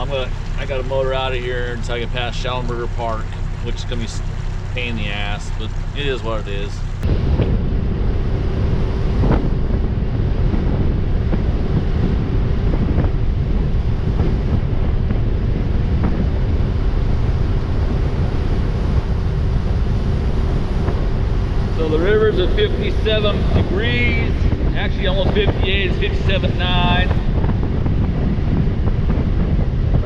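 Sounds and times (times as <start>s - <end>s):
outboard motor humming: 0.0s - 30.0s
water noise: 0.0s - 30.0s
wind buffeting microphone: 0.0s - 30.0s.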